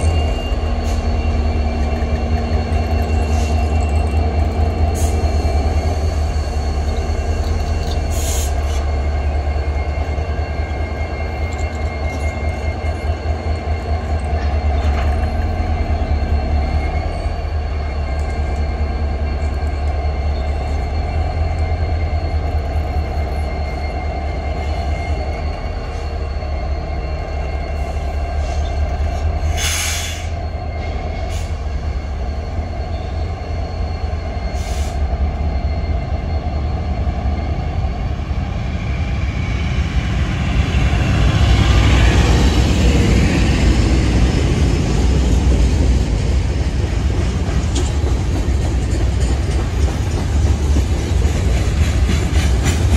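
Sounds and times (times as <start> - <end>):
faint high whining tones: 0.0 - 47.0.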